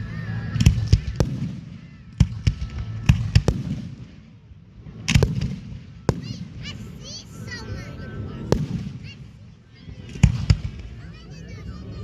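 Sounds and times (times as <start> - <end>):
fireworks bangs and cracks: 0.5 - 12.0.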